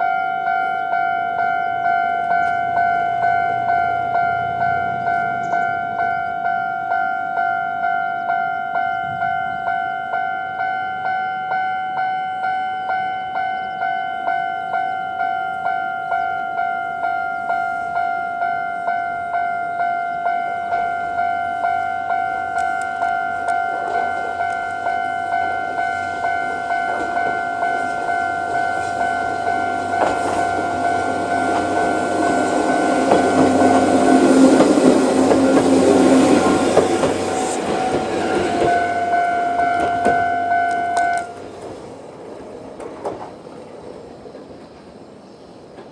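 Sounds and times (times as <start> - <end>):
level crossing alarm dinging: 0.0 - 41.5
electric train passing: 0.0 - 45.9.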